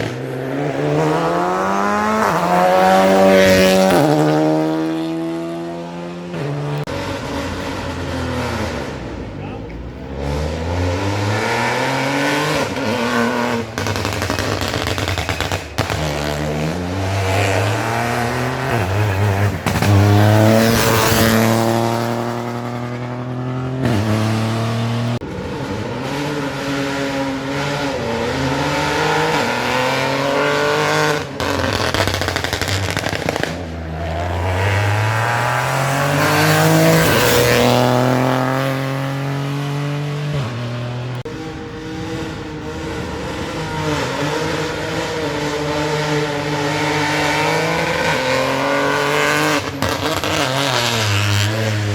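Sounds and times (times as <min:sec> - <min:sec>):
cars passing close: 0:00.0 - 0:51.9
rally car engines revving: 0:00.0 - 0:51.9.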